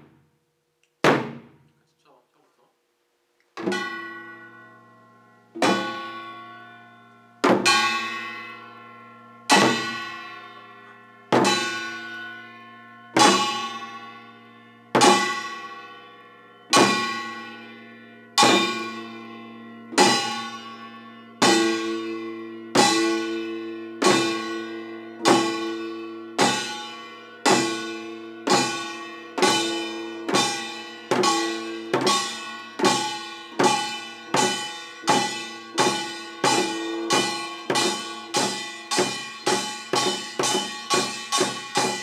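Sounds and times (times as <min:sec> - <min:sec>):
gong strikes ringing: 0:03.6 - 0:42.0.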